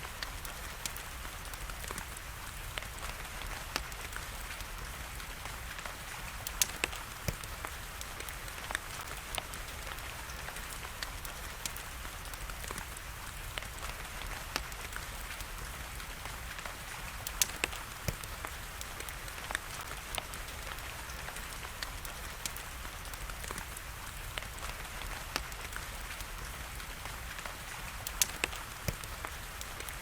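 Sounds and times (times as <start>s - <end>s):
rain hiss: 0.0s - 30.0s
wood fire crackling: 0.0s - 30.0s.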